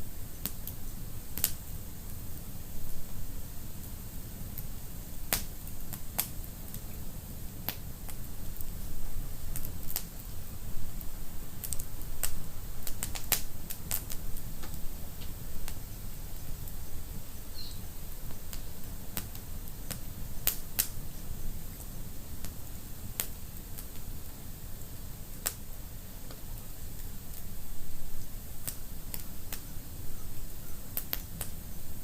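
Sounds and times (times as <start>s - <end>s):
fire low rumble: 0.0s - 32.0s
fire crackles and pops: 0.1s - 32.0s.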